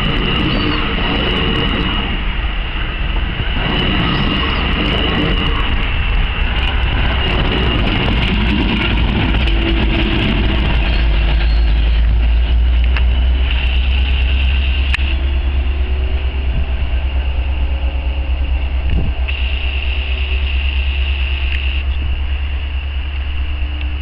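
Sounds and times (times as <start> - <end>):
train passing close by: 0.0 - 24.0.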